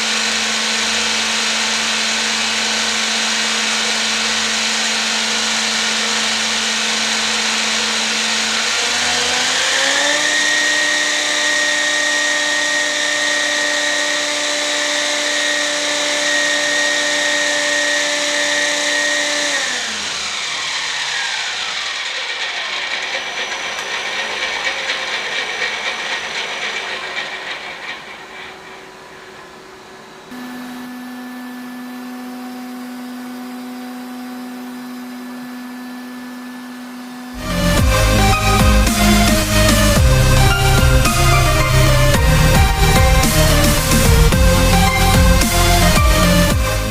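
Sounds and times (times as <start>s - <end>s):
turbine engine whine: 0.0s - 46.9s.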